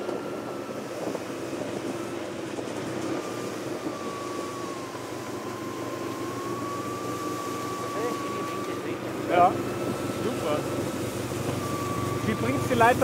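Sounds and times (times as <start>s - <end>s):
snowmobile engine whining: 0.0s - 13.0s.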